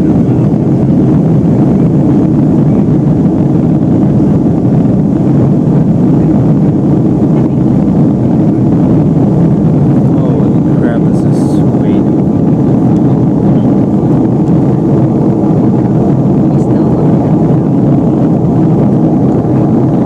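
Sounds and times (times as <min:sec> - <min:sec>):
airplane cabin engine rush: 0:00.0 - 0:20.0.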